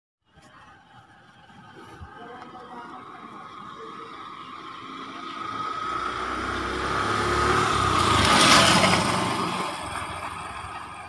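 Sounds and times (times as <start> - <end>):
motorcycle engine passing: 1.6 - 11.0.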